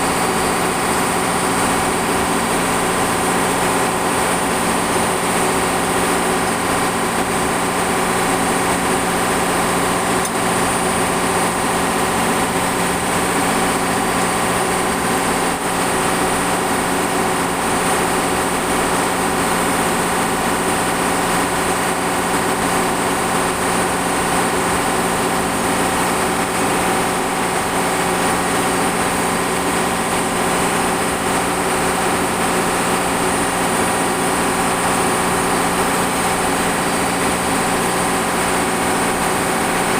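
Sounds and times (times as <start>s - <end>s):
ship machinery drone: 0.0s - 39.9s.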